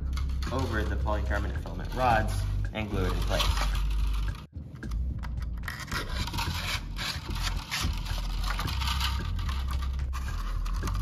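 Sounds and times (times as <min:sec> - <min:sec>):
plastic rods scraping plastic: 0:00.2 - 0:04.5, 0:05.6 - 0:11.0.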